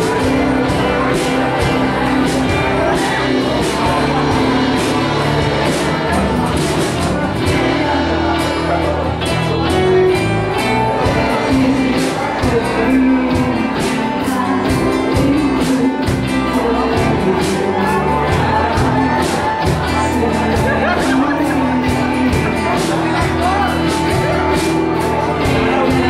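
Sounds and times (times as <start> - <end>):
bass: 0.0 - 26.0
drum kit beat: 0.0 - 26.0
electric guitars: 0.0 - 26.0
female voice singing: 0.0 - 26.0
keyboard: 0.0 - 26.0.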